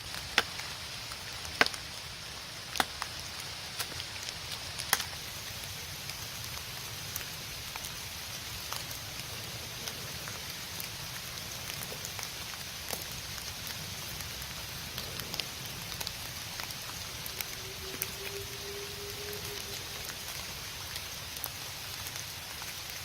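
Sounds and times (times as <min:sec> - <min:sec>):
raindrops ticking on surfaces: 0:00.0 - 0:23.0
steady rain falling: 0:00.0 - 0:23.0.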